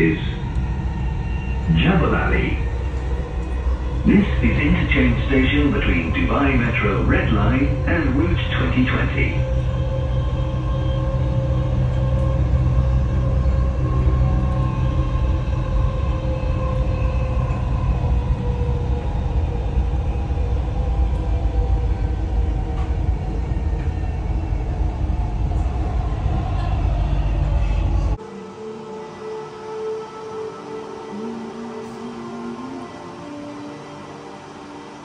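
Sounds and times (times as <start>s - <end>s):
held humming tones: 0.0s - 35.0s
train rumble inside carriage: 0.0s - 35.0s.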